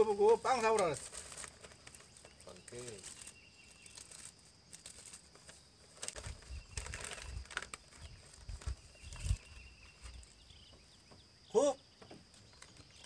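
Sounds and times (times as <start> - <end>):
faint outdoor rustling: 0.0 - 13.0.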